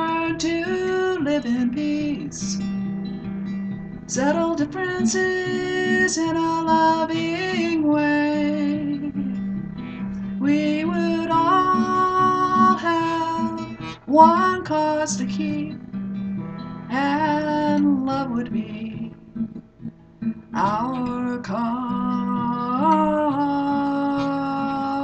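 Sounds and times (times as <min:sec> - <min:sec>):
woman singing: 0:00.0 - 0:02.8, 0:04.1 - 0:09.6, 0:10.3 - 0:15.8, 0:16.9 - 0:19.2, 0:20.5 - 0:25.0
strummed acoustic guitar: 0:00.0 - 0:25.0.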